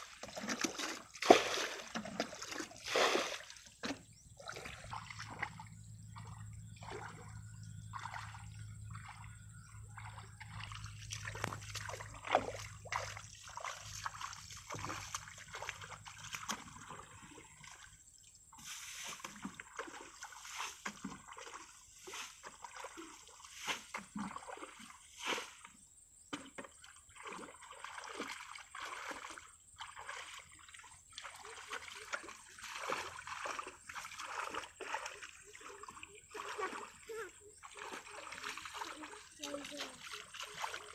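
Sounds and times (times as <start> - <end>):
muddy water splashing: 0.0 - 40.9.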